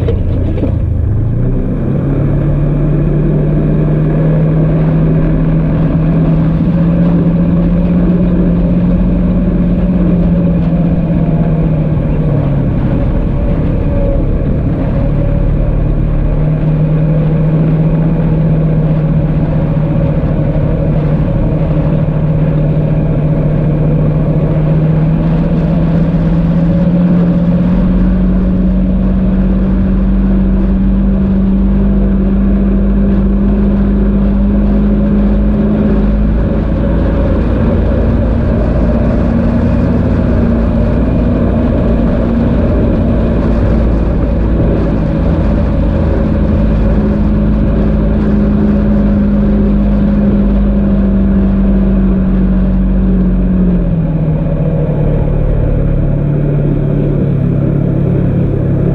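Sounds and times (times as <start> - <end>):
low rumble: 0.0 - 58.9
off-road vehicle engine running: 0.0 - 58.9.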